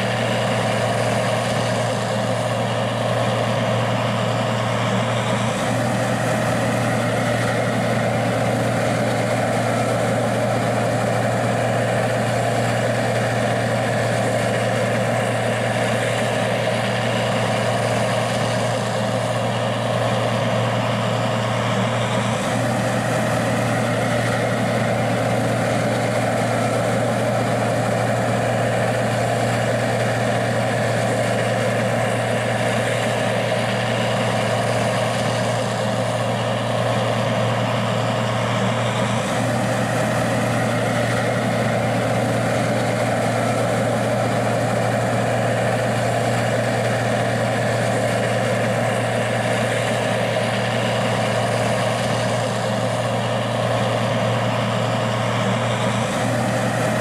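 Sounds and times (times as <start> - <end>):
combine engine drone: 0.0 - 57.0.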